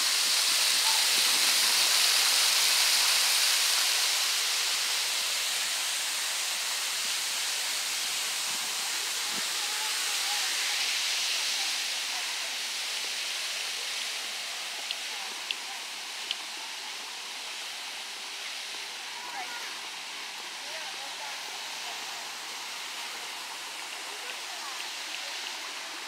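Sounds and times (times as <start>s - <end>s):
water rushing over spillway: 0.0s - 26.0s.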